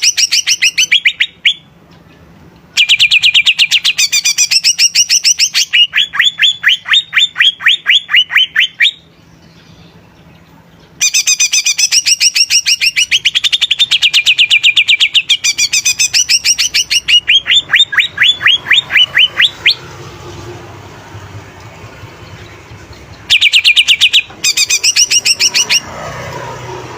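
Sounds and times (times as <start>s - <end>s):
bird singing whistled notes: 0.0s - 1.7s, 2.8s - 19.8s, 22.2s - 25.8s.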